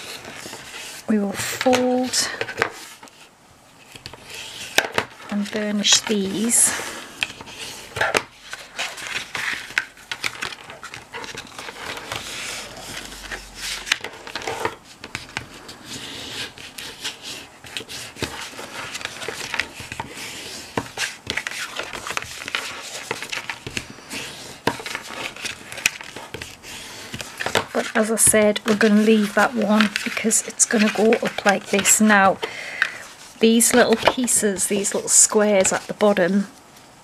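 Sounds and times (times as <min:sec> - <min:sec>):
bone folder scraping cardstock: 0:00.0 - 0:34.4
card rustling: 0:00.0 - 0:36.9.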